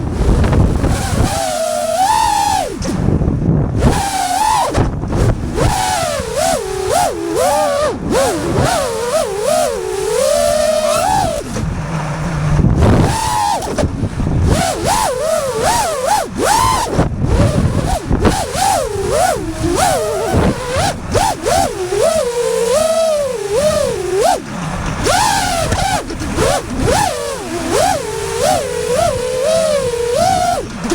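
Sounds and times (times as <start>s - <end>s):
quadcopter motors whining: 0.0s - 30.9s
wind rush: 0.0s - 30.9s.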